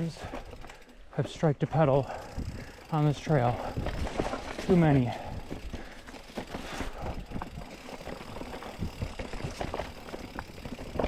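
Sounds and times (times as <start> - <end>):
mountain bike rattling over rocks: 0.0 - 11.0.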